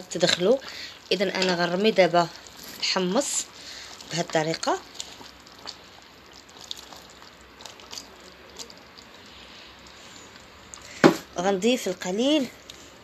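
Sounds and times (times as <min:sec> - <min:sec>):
liquid simmering hiss: 0:00.0 - 0:13.0.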